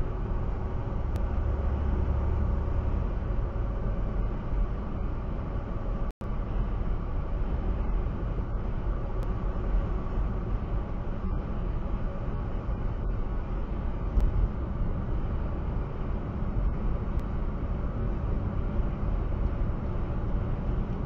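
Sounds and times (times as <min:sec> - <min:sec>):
road and engine noise in vehicle: 0:00.0 - 0:21.0.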